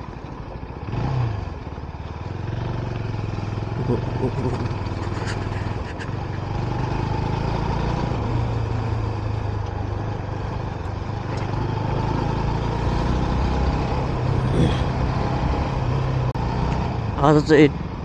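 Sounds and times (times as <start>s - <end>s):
motorbike engine running: 0.0s - 18.0s
road and wind noise: 0.0s - 18.0s.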